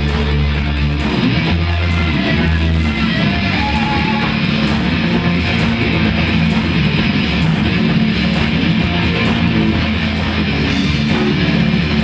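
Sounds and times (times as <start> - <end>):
bass guitar low notes: 0.0 - 12.0
electric guitar: 0.0 - 12.0.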